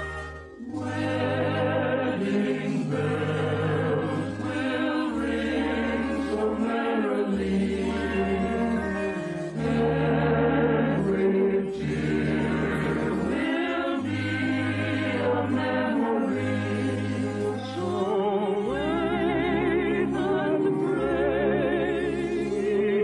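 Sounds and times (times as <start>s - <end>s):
choir singing: 0.0s - 23.0s
orchestral accompaniment: 0.0s - 23.0s.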